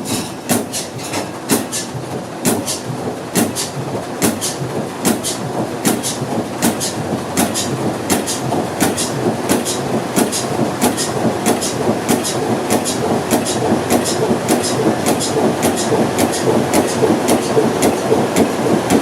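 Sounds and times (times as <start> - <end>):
sharp engine ticks: 1.5 - 19.0.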